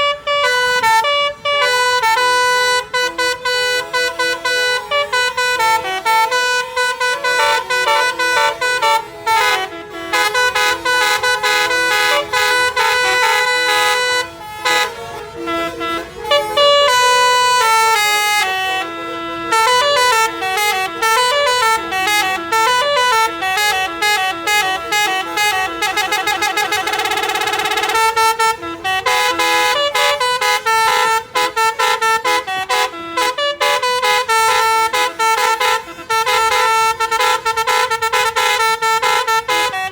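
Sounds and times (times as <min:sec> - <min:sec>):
multi-tone bus air horn tune: 0:00.0 - 0:39.9.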